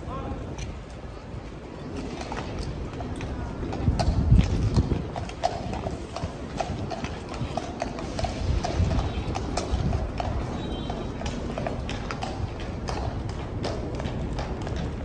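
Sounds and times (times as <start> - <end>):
horse hooves clip-clopping on stone: 0.4 - 15.0.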